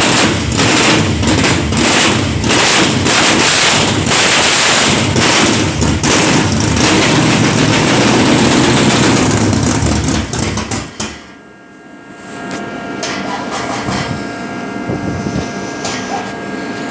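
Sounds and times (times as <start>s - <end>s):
car engine running: 0.0s - 11.3s, 13.3s - 16.9s.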